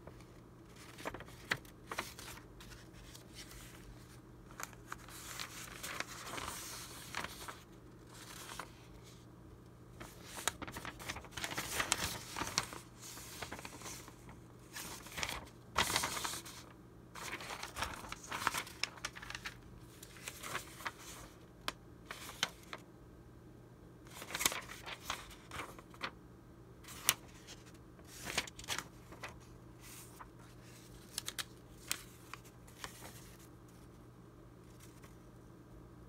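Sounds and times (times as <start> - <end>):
paper rustling and crinkling: 0.0 - 9.2, 10.0 - 22.8, 24.1 - 26.1, 26.8 - 34.0, 34.6 - 35.3
stiff paper crackling: 0.1 - 9.2, 10.0 - 22.8, 24.1 - 26.1, 26.8 - 33.9.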